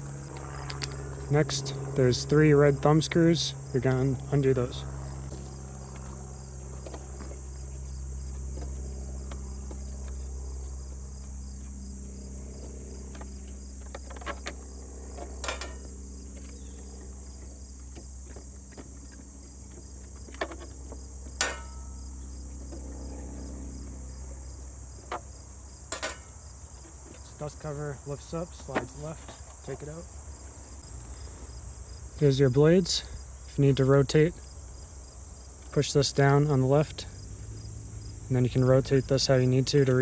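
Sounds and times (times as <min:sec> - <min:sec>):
low hum: 0:00.0 - 0:35.3
crickets chirring: 0:00.0 - 0:40.0.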